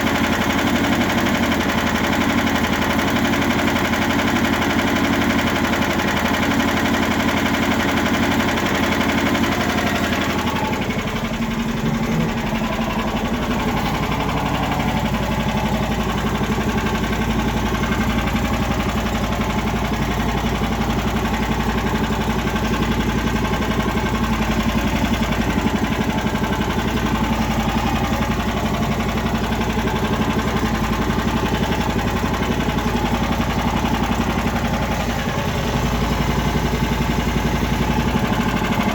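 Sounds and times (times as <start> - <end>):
small engine starting and idling: 0.0 - 38.9.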